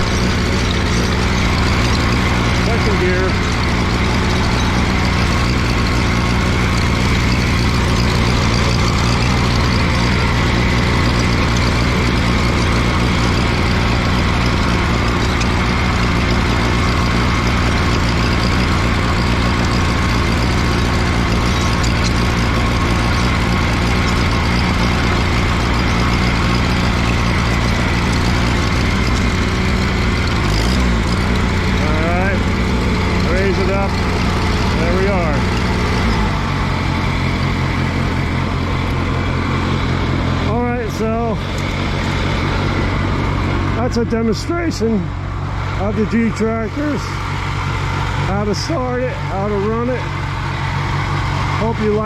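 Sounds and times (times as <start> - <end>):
tractor engine running under load: 0.0 - 52.0.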